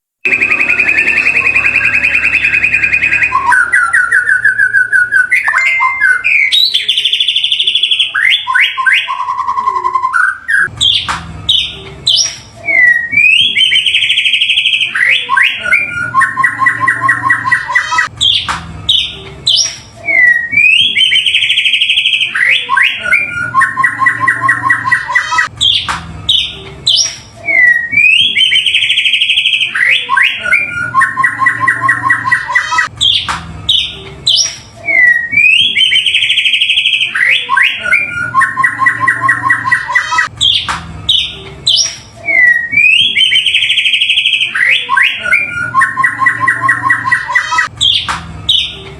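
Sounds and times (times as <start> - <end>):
bird singing whistles and trills: 0.3 - 48.8.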